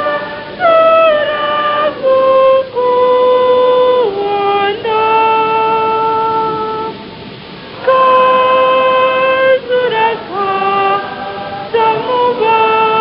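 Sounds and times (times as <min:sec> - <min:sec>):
slow worship music melody: 0:00.0 - 0:13.0.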